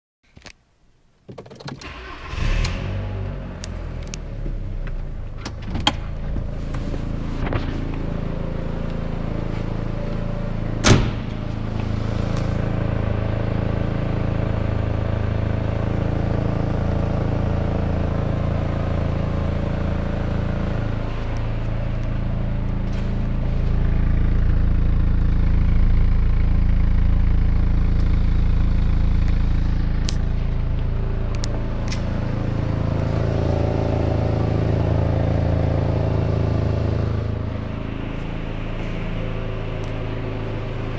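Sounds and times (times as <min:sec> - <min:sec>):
car engine exhaust rumble: 0:01.9 - 0:40.9.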